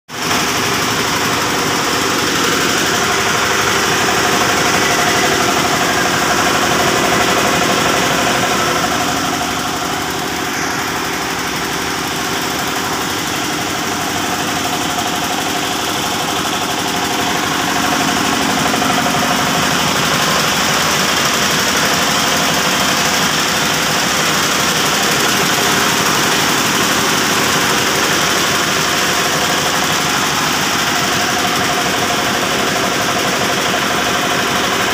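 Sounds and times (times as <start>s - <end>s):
air compressor pumping: 0.1s - 34.9s
diesel engine running: 0.1s - 34.9s.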